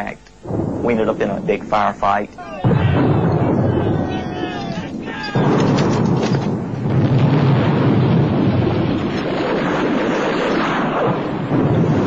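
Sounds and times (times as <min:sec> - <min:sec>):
explosions and gunfire: 0:00.4 - 0:01.9, 0:02.5 - 0:12.0.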